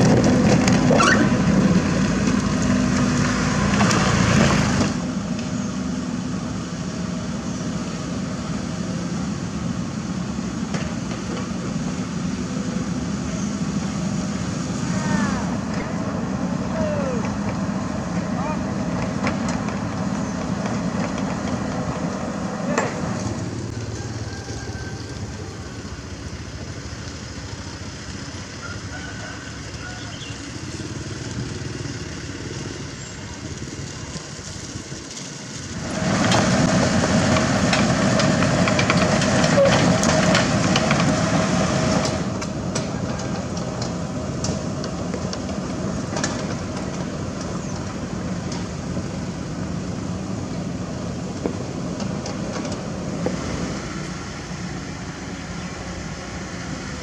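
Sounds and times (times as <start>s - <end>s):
dump truck engine driving: 0.0s - 57.0s
excavator engine running: 0.0s - 57.0s.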